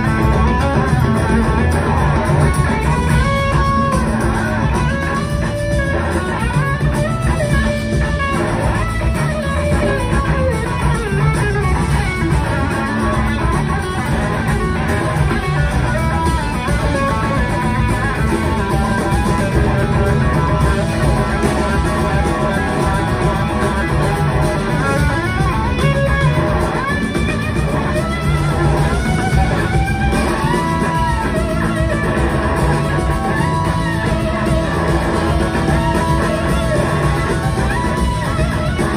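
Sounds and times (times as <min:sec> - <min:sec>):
bass: 0:00.0 - 0:38.9
drums: 0:00.0 - 0:38.9
electric guitar lead with bending notes: 0:00.0 - 0:38.9.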